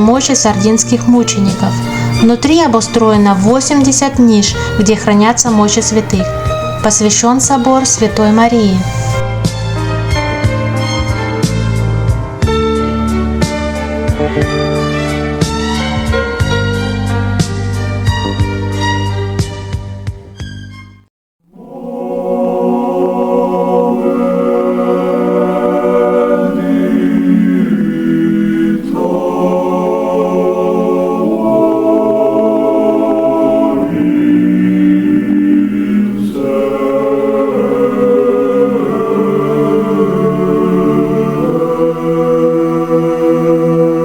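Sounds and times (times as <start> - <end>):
choir singing held chords: 0.0 - 18.7, 21.4 - 44.0.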